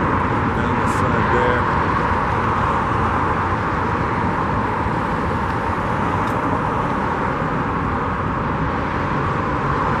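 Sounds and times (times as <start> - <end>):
freeway traffic rush: 0.0 - 10.0.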